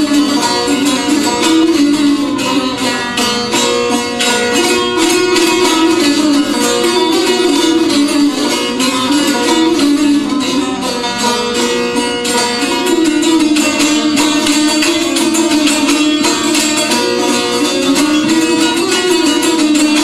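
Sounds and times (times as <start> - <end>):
lutes strummed and plucked: 0.0 - 20.0.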